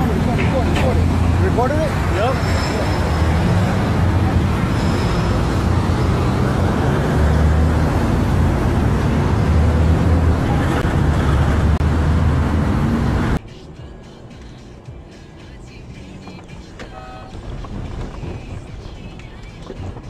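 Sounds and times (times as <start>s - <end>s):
highway traffic rumble: 0.0s - 20.0s.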